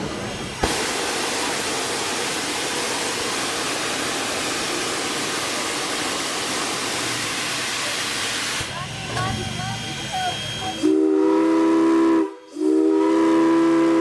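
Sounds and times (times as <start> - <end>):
steam locomotive venting steam: 0.0 - 14.0.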